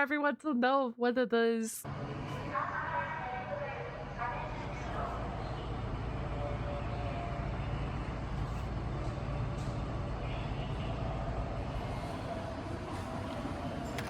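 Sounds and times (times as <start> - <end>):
traffic engine rumble: 1.8 - 14.0.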